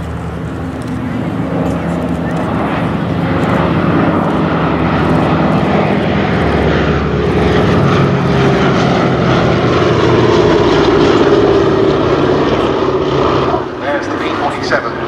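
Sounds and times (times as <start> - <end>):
propeller aircraft droning past: 0.0 - 15.0.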